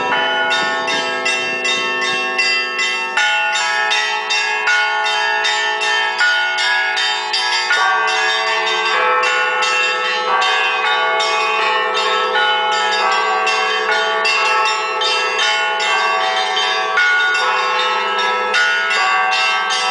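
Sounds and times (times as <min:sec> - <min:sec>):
large church bells ringing: 0:00.0 - 0:19.9
small church bells striking quickly: 0:00.0 - 0:19.9.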